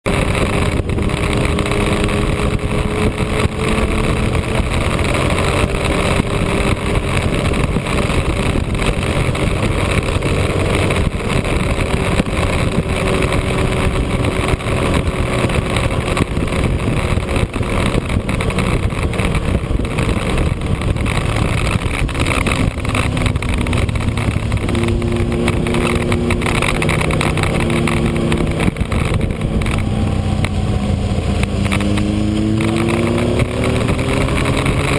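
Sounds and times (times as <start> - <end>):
motorcycle engine running: 0.0 - 34.9
wind rush on microphone: 0.0 - 34.9.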